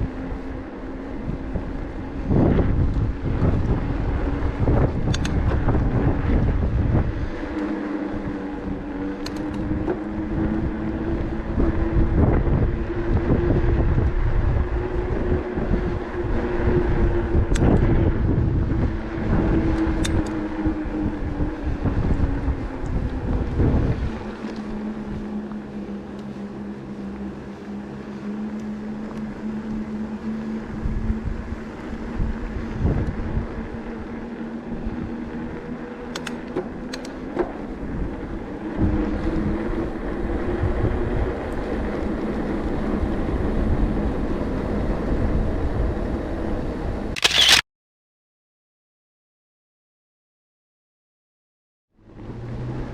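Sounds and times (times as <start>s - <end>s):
electric bike motor whining: 0.0s - 47.6s
wind rumbling on microphone: 0.0s - 47.6s, 52.0s - 52.9s.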